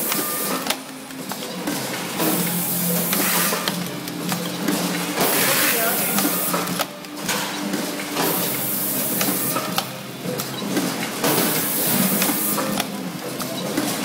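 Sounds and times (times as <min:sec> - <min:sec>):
machine whir and hiss: 0:00.0 - 0:14.0.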